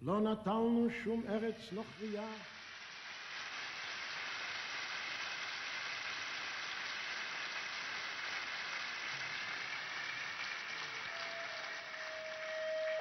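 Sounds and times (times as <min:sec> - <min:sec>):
large audience applauding: 0:01.8 - 0:13.0.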